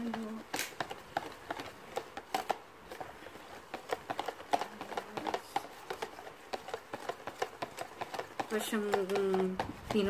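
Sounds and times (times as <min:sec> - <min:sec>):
whisk knocking container: 0:00.0 - 0:10.0.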